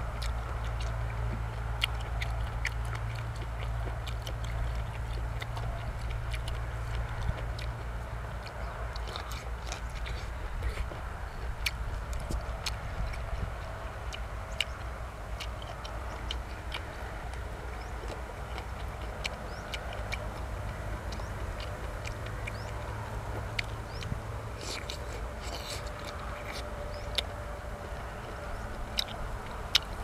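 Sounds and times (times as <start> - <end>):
person chewing food: 0.0 - 30.0
steady low rumble: 0.0 - 30.0.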